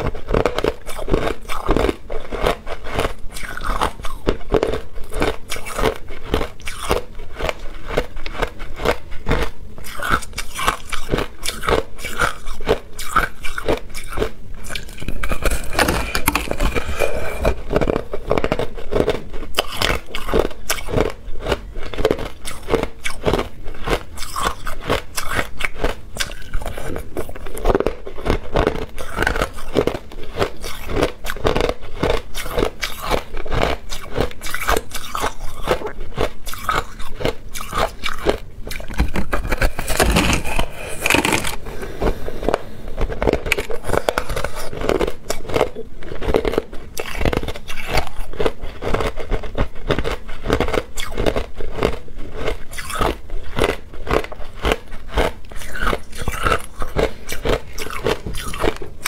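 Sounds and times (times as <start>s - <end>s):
crunching ice being chewed: 0.0s - 59.0s.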